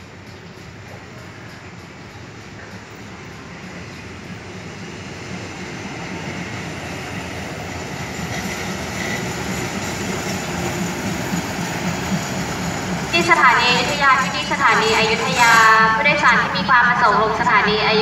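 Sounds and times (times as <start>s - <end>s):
diesel train engine: 0.0s - 18.0s
train wheels on rails: 0.0s - 18.0s.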